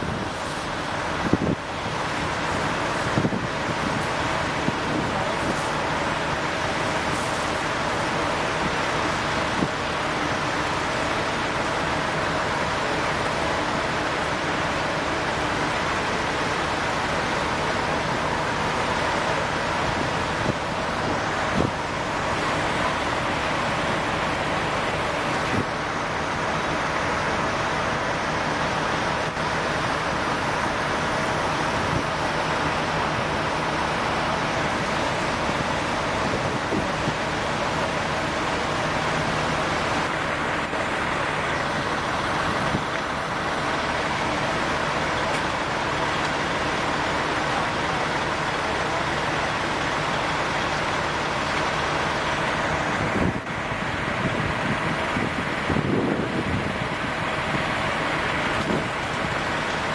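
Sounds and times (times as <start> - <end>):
fire hose spraying water: 0.0 - 59.9
fire truck engine running: 0.0 - 59.9.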